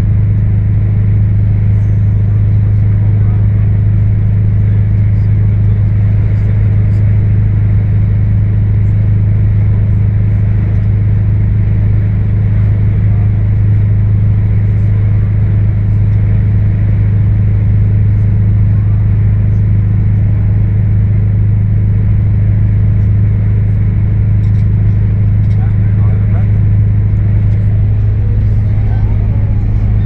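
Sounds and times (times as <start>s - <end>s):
diesel engine running steadily: 0.0s - 30.0s.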